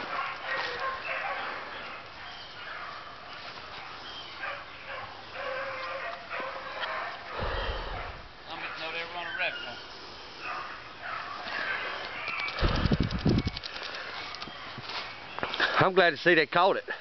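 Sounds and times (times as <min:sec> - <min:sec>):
dogs baying and yipping: 0:00.0 - 0:15.4.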